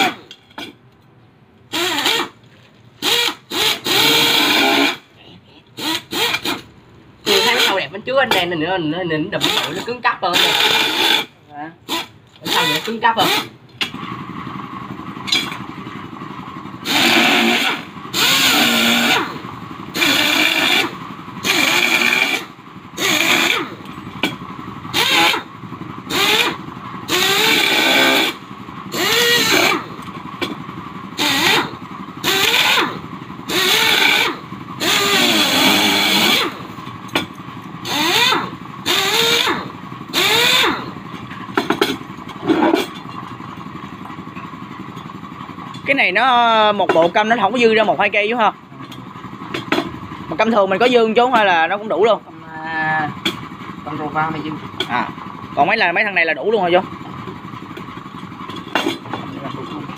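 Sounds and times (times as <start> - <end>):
motorcycle engine revving: 3.1 - 5.1, 5.9 - 8.6, 12.3 - 59.9.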